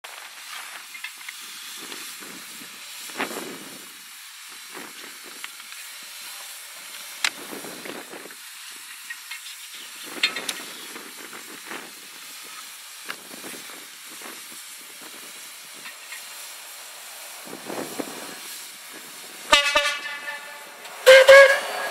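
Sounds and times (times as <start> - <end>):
steam locomotive hissing: 0.1 - 21.9.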